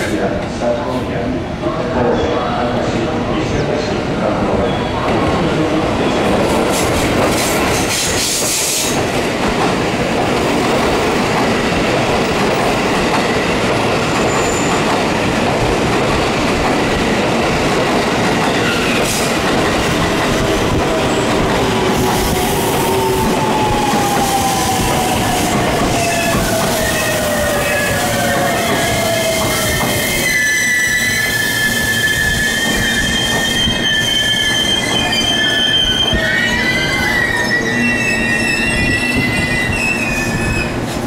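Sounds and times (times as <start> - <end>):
train wheels rumbling on rail: 2.6 - 41.0.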